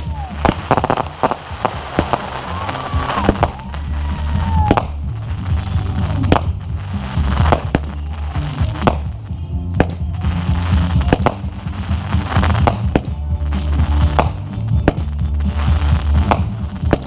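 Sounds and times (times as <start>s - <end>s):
fireworks banging: 0.0s - 17.0s
loud music with heavy bass: 0.0s - 17.0s.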